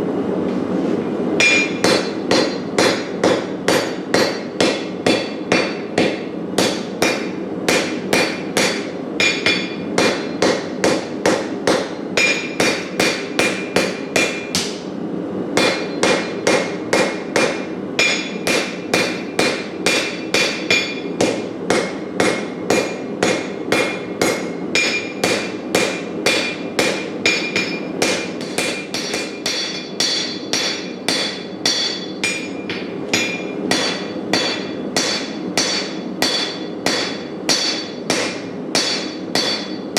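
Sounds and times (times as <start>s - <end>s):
hammer striking steel on anvil: 1.4s - 14.8s, 15.6s - 39.9s.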